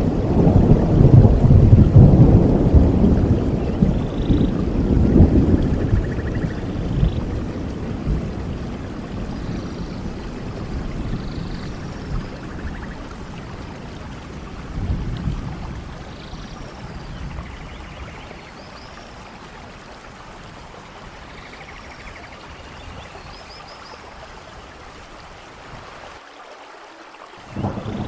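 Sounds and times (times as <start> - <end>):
low rumble of thunder: 0.0 - 24.7, 27.4 - 28.0
steady rain: 0.0 - 28.0.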